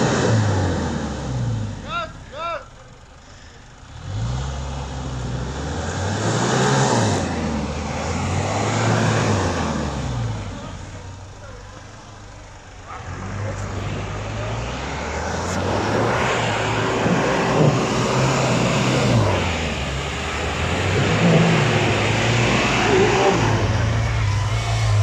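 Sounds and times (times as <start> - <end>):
engine revving under load: 0.0 - 2.4, 3.7 - 25.0
tyres churning through mud: 4.0 - 25.0.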